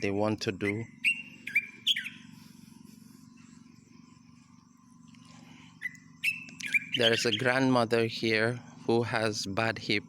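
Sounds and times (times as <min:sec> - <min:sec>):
birds chirping: 0:00.0 - 0:10.0
steady low hum: 0:00.0 - 0:10.0.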